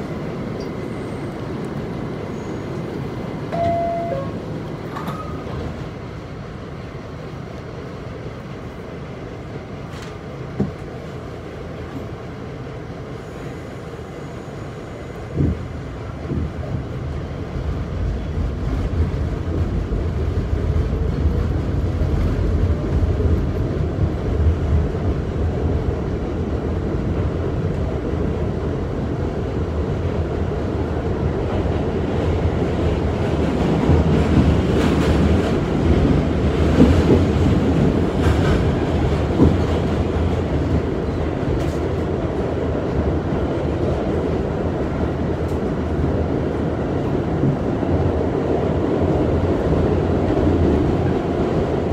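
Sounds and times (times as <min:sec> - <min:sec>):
subway wheels rumbling on track: 0:00.0 - 0:51.9
train rattling and clattering: 0:00.0 - 0:51.9.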